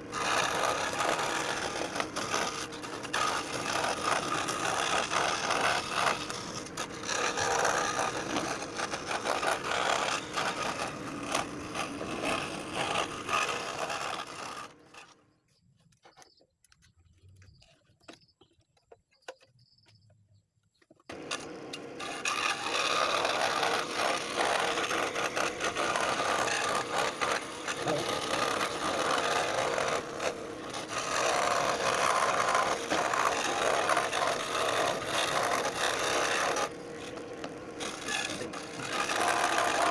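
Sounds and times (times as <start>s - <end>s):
scroll saw cutting wood: 0.0s - 15.3s, 21.1s - 39.9s.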